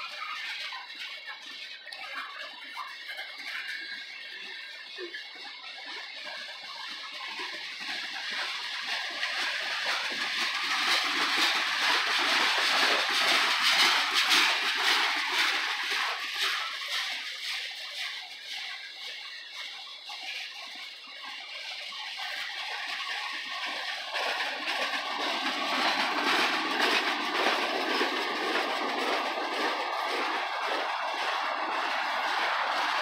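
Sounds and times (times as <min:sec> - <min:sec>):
freight train wheels on rail: 0:00.0 - 0:33.0.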